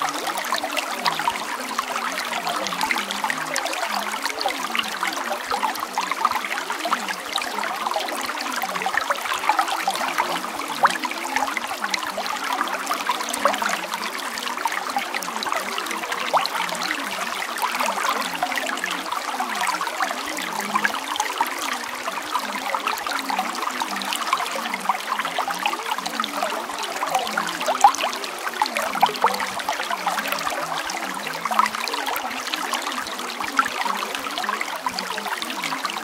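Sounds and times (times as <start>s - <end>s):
stream trickling and splashing: 0.0s - 36.0s.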